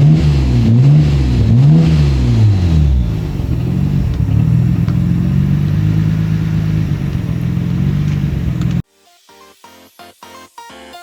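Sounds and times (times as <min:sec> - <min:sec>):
car engine idling with deep exhaust: 0:00.0 - 0:08.8.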